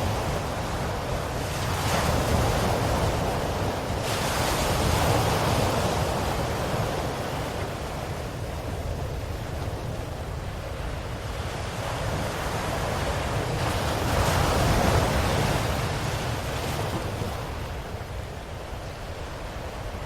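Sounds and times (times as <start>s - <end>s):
ocean waves washing ashore: 0.0s - 20.0s.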